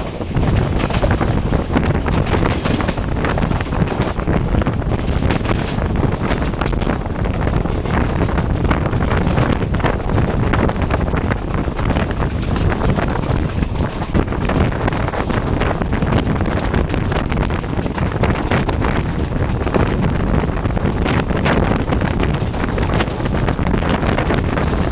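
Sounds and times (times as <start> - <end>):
train wheels on track: 0.0 - 24.9
wind buffeting microphone: 0.0 - 24.9.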